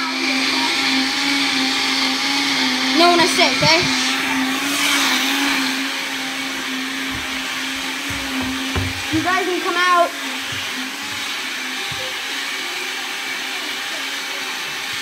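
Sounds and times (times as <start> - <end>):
blender motor whine: 0.0 - 15.0.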